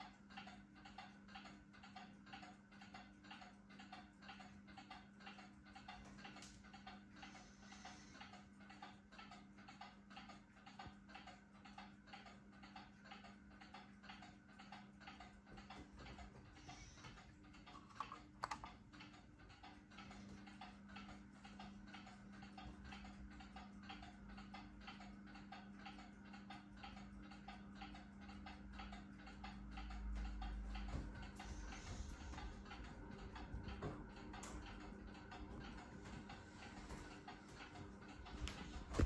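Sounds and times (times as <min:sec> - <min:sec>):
ceiling fan motor hum: 0:00.0 - 0:39.0
rhythmic ticking: 0:00.0 - 0:39.0.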